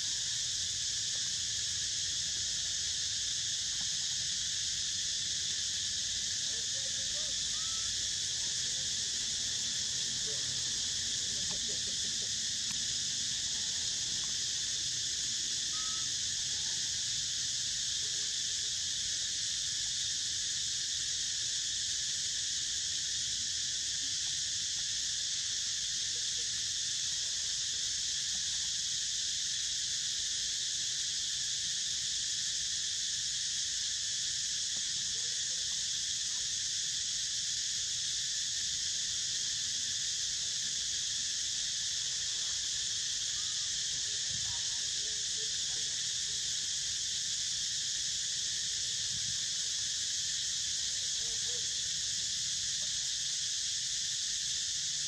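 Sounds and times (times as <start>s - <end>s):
chorus of forest insects: 0.0s - 55.0s.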